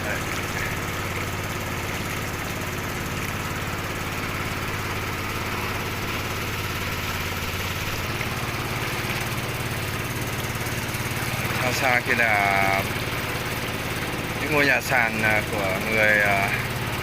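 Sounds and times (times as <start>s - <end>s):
small engine chugging: 0.0s - 17.0s.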